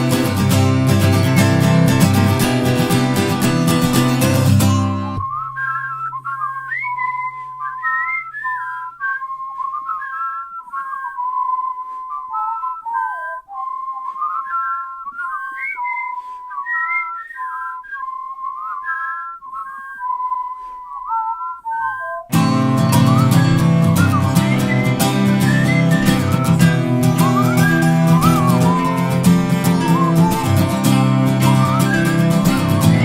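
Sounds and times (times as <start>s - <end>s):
whistled melody: 0.0s - 33.0s.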